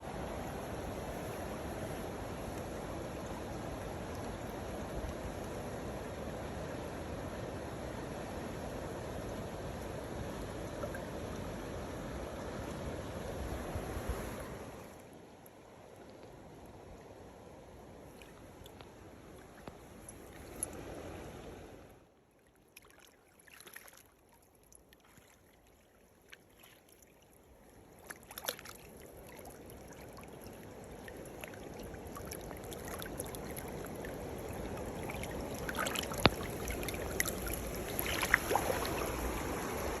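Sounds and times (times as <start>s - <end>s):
stream water rushing: 0.0s - 40.0s.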